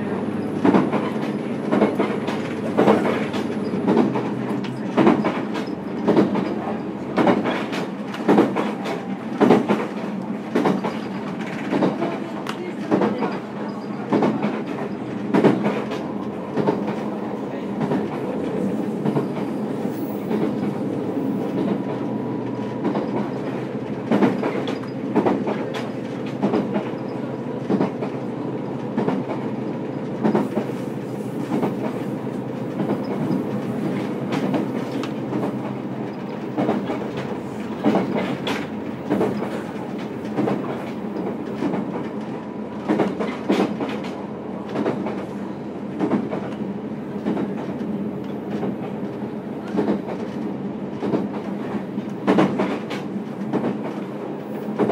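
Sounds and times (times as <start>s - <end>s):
rail joint clicks: 0.0s - 54.9s
wheels rumbling on rail: 0.0s - 54.9s.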